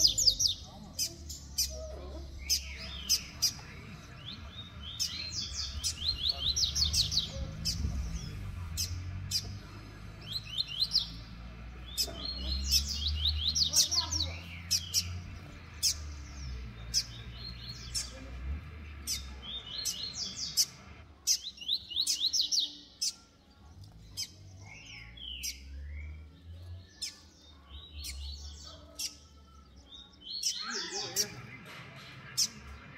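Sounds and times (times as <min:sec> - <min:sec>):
birds chirping sharply: 0:00.0 - 0:32.9.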